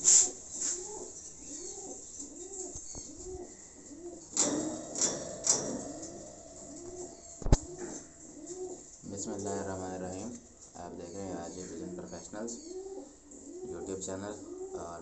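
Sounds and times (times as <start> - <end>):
pigeon cooing: 0.0 - 15.0.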